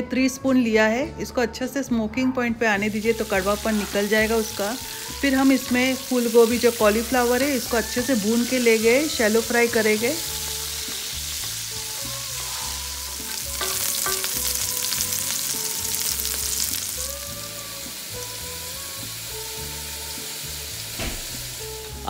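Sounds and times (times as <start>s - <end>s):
vegetables sizzling in oil: 2.8s - 22.0s.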